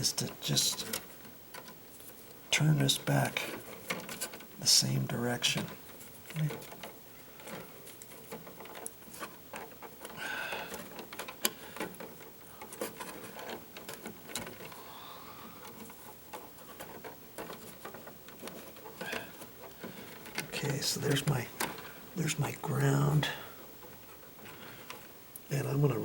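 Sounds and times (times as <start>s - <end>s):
wire clicking and scraping: 0.0s - 26.0s.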